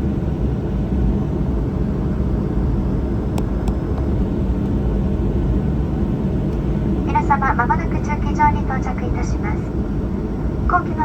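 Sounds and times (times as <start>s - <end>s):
aircraft engines rumbling: 0.0s - 11.0s.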